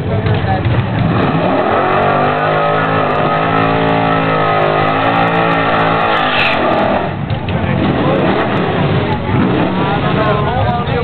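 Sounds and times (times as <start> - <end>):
car engine at high revs: 0.0 - 10.7.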